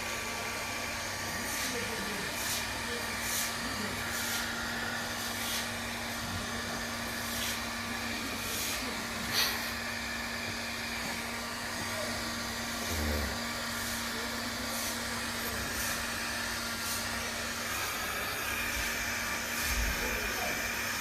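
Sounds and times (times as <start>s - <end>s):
hair dryer blowing: 0.0s - 21.0s.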